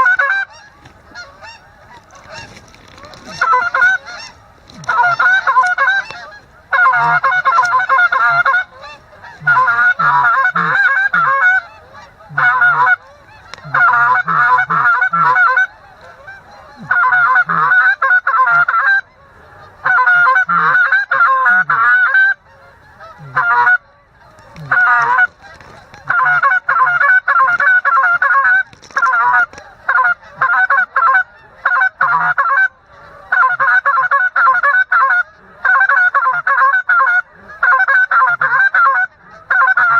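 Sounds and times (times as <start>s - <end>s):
goose call honks and clucks: 0.0s - 39.9s.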